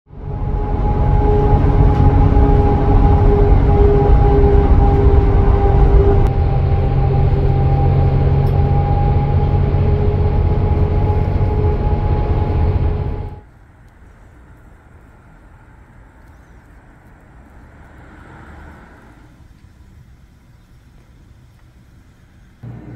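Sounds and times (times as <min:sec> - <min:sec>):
constant whine: 0:00.1 - 0:17.7, 0:19.0 - 0:22.9
bus engine and road rumble: 0:00.1 - 0:22.9
faint street ambience: 0:00.1 - 0:22.9.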